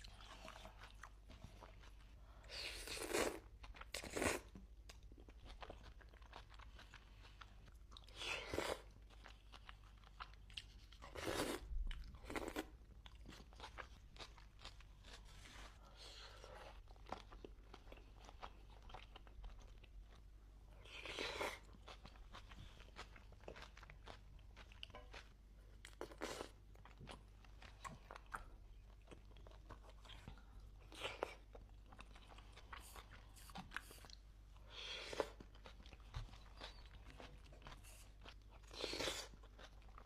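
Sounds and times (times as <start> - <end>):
wet chewing and crunching: 0.0 - 40.0.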